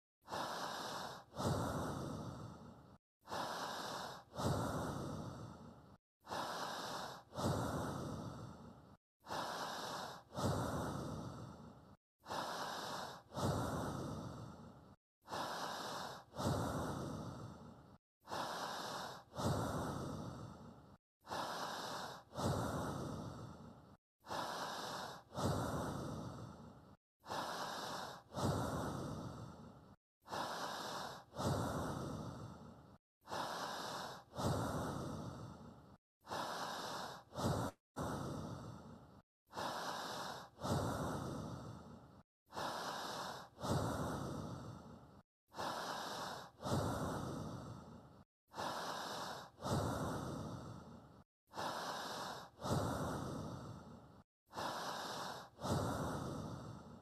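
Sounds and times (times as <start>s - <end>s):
person breathing: 0.2s - 57.0s.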